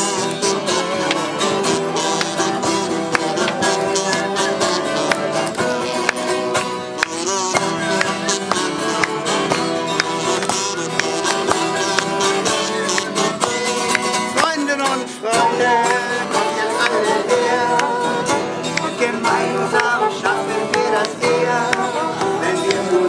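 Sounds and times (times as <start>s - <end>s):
acoustic guitar plucked and strummed: 0.0s - 23.0s.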